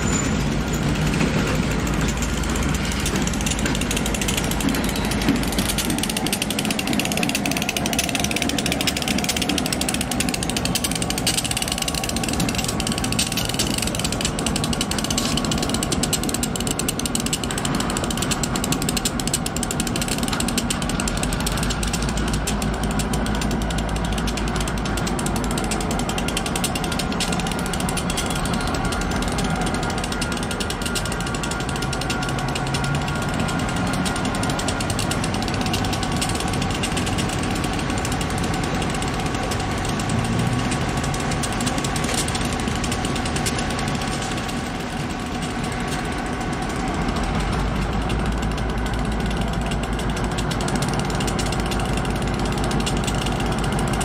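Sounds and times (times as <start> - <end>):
freight train wheels clattering: 0.0 - 54.0.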